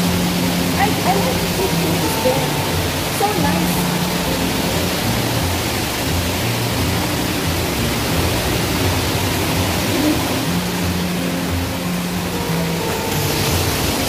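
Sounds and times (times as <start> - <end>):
loud rushing hiss: 0.0 - 14.0.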